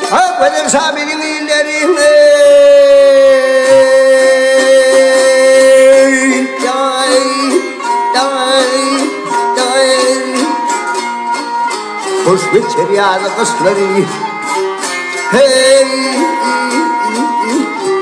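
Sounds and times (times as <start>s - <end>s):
bowed fiddle: 0.0s - 18.0s
man singing folk song: 0.0s - 18.0s
plucked lute: 0.0s - 18.0s.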